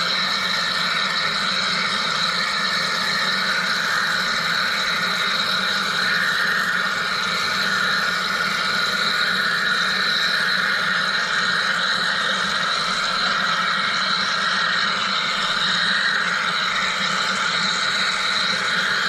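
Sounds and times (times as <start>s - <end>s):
low machine hum: 0.0s - 19.0s
machine hissing and whirring: 0.0s - 19.0s.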